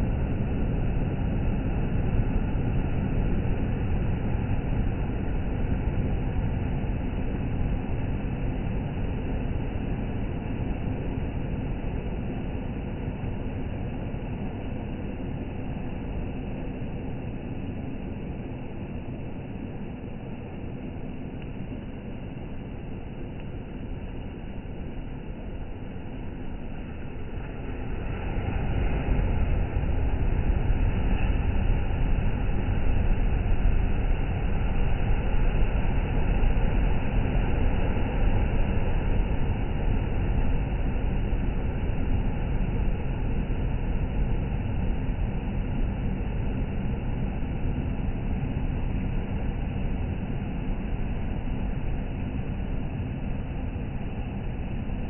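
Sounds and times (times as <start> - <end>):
wind: 0.0 - 55.0.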